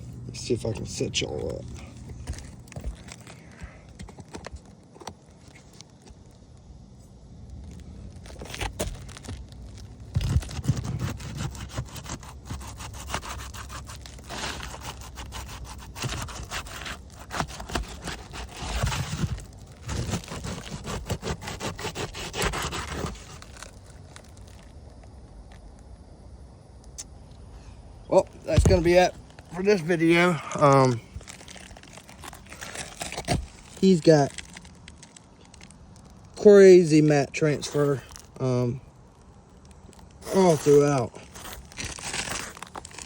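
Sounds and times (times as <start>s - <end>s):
roof shingles scraping and tearing: 0.3s - 6.6s, 7.5s - 24.7s, 28.4s - 43.0s.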